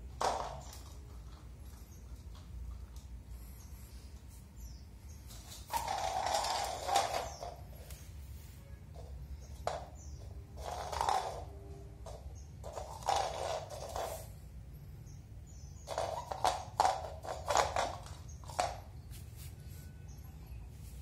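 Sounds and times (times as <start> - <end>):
ball and paws on tile floor: 0.0 - 14.5, 15.7 - 21.0.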